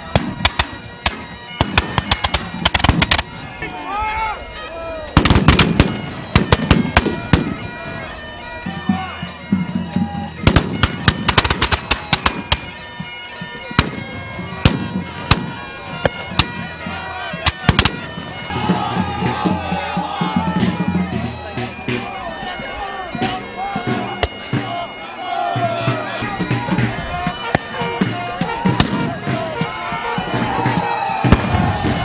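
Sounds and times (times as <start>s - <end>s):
bagpipes playing: 0.0s - 32.0s.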